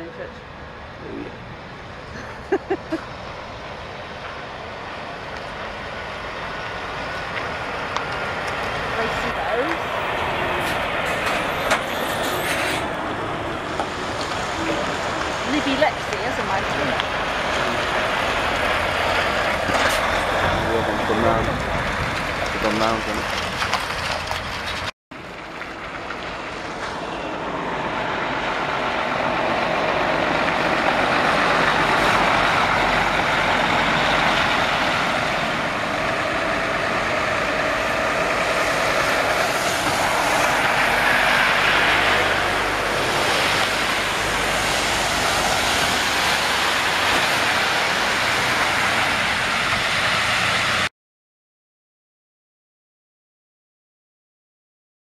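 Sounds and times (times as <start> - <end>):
diesel engines running: 0.0 - 50.9
lorries driving on wet road: 0.0 - 50.9.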